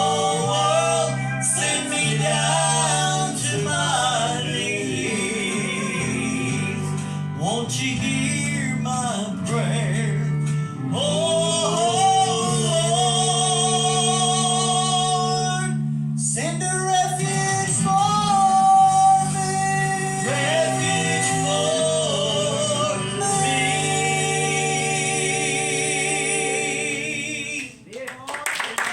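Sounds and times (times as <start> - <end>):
steady bass line: 0.0 - 27.6
guitar accompaniment: 0.0 - 27.8
gospel singers with vibrato: 0.0 - 28.2.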